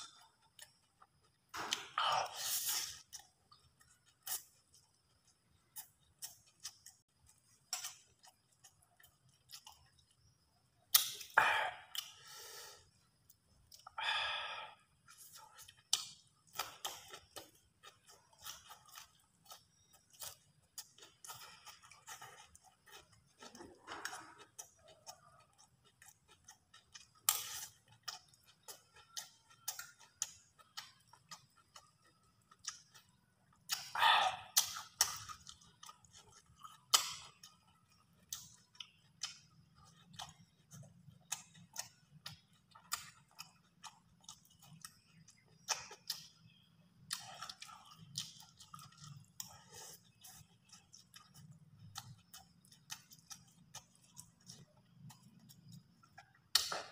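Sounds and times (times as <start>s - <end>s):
wet chewing and lip-smacking: 0.0s - 12.3s, 14.9s - 56.9s.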